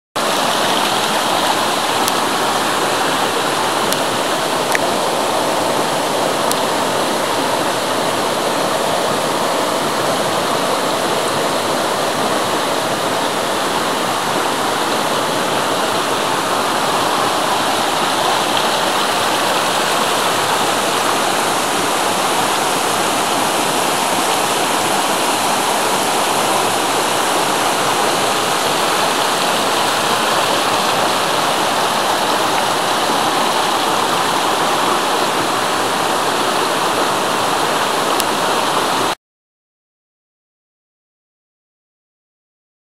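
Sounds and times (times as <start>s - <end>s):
stream rushing over stones: 0.1s - 39.2s.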